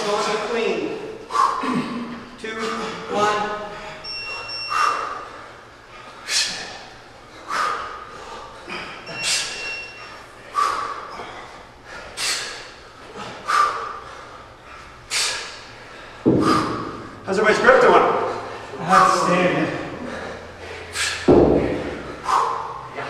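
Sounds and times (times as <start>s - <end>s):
sharp forceful breaths: 1.0s - 17.3s, 18.1s - 23.0s.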